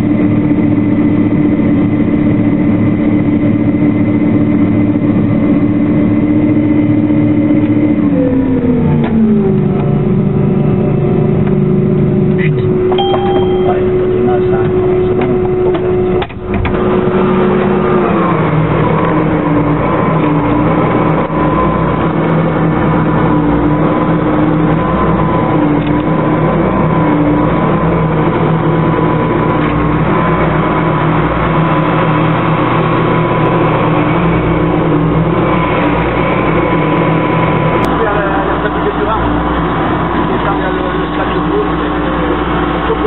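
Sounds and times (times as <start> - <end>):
combine harvester drone: 0.0 - 43.0.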